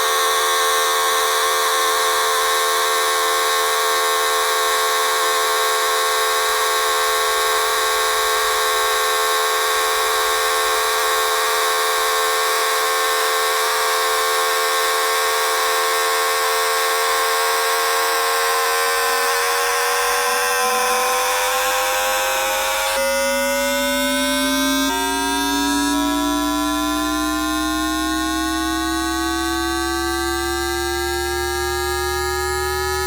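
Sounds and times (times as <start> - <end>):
train inverter electronic whine: 0.0 - 33.0.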